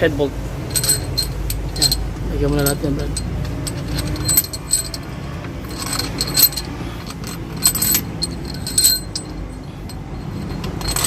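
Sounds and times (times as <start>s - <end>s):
steady low hum: 0.0s - 11.0s
metal bolts clinking: 0.7s - 11.0s.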